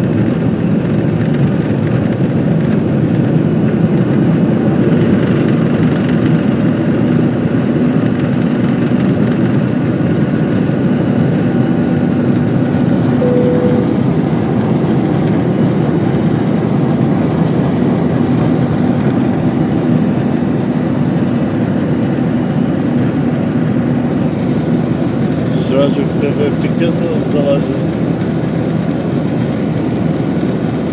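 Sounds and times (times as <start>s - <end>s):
jet engine cabin roar: 0.0s - 30.9s.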